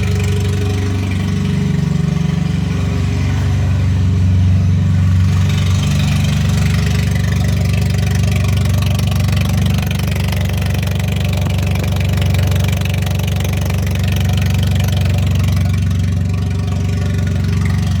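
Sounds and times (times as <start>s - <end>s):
car engine idling loudly: 0.0s - 18.0s.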